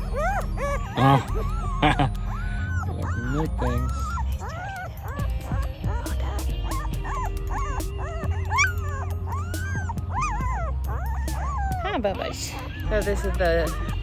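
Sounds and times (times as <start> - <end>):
background music: 0.0 - 14.0
puppy whimpering and squealing: 0.0 - 14.0.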